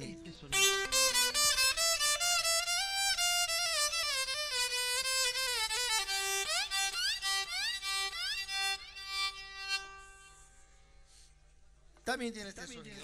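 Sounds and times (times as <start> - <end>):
bowed string instrument melody: 0.0 - 10.5.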